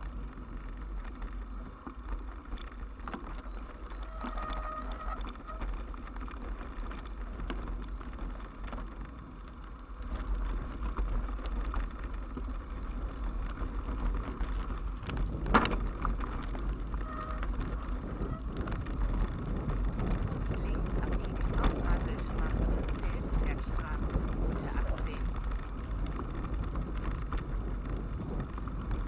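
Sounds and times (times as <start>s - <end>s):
bike rolling noise: 0.0s - 29.0s
wind buffeting microphone: 0.0s - 29.0s.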